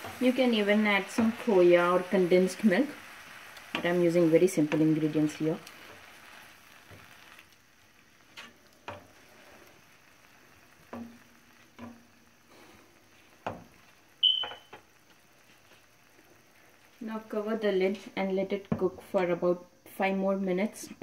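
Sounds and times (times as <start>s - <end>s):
faint sizzle: 0.0s - 21.0s.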